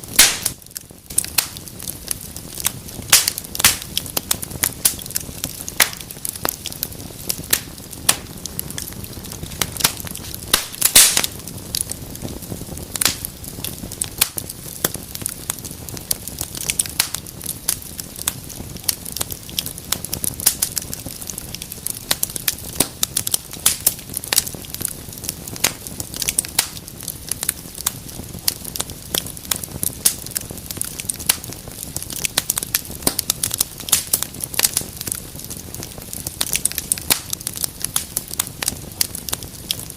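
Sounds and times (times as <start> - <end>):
fire crackling and popping: 0.0 - 39.9
hiss of flames: 0.0 - 39.9.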